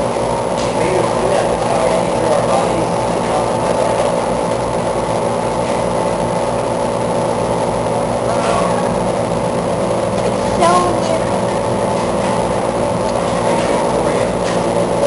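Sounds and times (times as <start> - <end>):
fans droning: 0.0 - 15.0.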